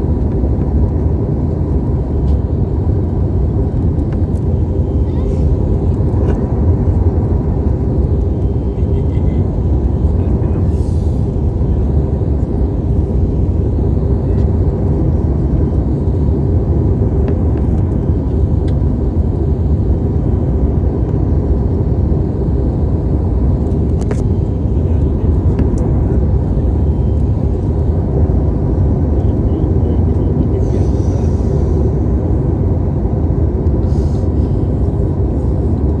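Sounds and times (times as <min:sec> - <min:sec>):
airliner cabin engine rumble: 0:00.0 - 0:36.0.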